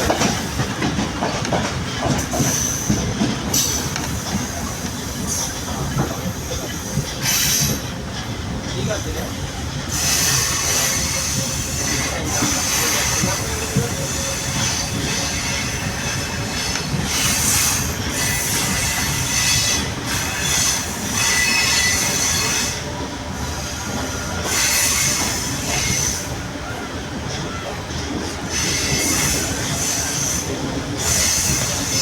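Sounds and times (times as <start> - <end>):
steady rail noise: 0.0 - 32.0
train wheels squealing: 2.0 - 8.0, 9.9 - 32.0.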